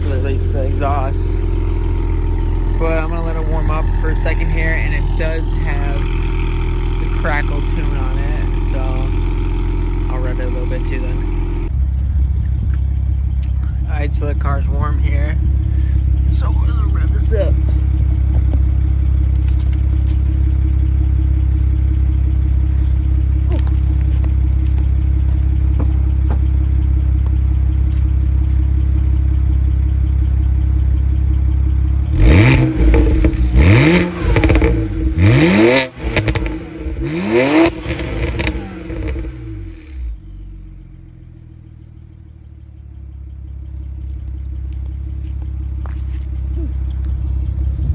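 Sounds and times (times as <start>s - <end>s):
car engine idling and revving: 0.0s - 47.9s
exhaust crackling: 0.0s - 47.9s.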